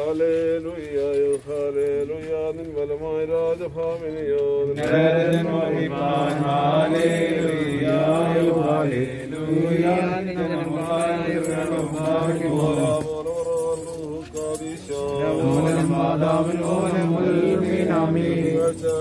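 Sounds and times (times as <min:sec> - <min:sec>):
male voices chanting a hymn: 0:00.0 - 0:19.0.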